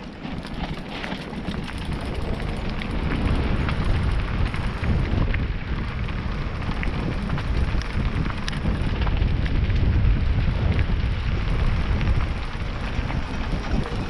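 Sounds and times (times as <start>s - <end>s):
bike clicks and rattles: 0.0s - 14.0s
bike tyres crunching on stones: 0.0s - 14.0s
wind on microphone: 0.0s - 14.0s.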